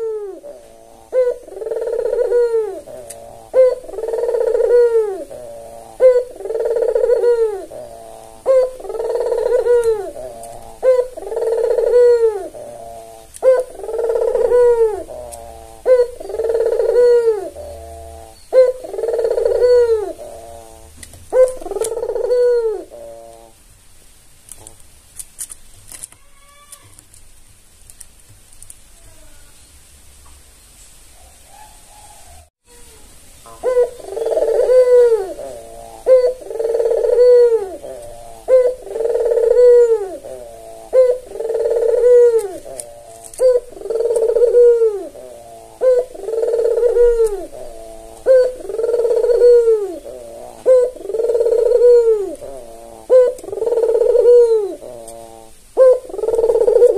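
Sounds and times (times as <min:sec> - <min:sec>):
dove cooing: 0:00.0 - 0:23.6, 0:31.2 - 0:56.9.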